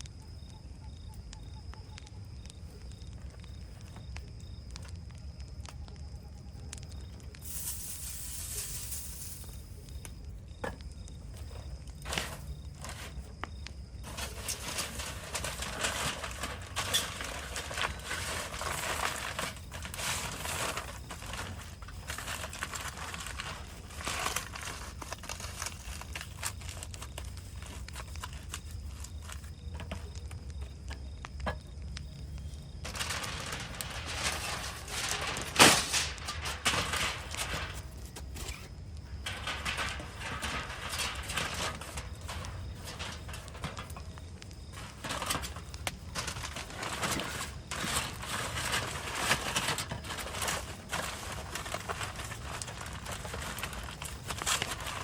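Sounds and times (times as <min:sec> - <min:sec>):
scattered clicks: 0:00.0 - 0:07.6, 0:09.5 - 0:47.8
rustling and crinkling: 0:06.6 - 0:55.0.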